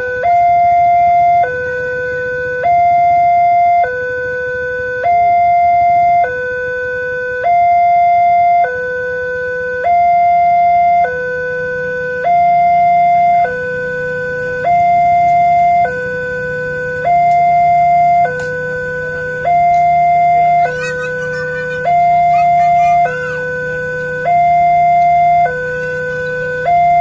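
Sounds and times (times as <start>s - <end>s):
level crossing two-tone siren: 0.0s - 27.0s.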